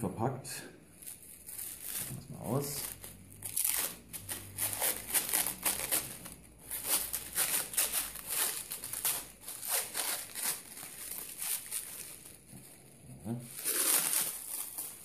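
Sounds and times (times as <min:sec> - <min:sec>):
plastic wrapping crinkling: 0:00.9 - 0:15.0.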